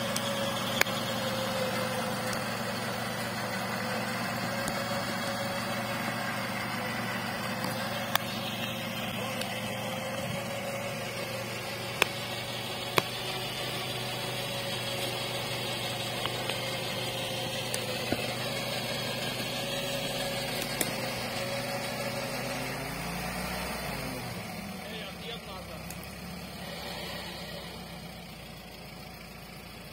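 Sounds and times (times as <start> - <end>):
electric winch whining: 0.0 - 25.6, 26.2 - 29.0
engine running: 0.0 - 29.9.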